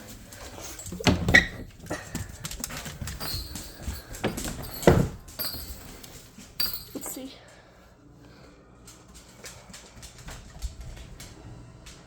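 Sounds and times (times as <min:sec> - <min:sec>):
paws and claws on floor: 0:00.0 - 0:06.9, 0:08.8 - 0:12.0.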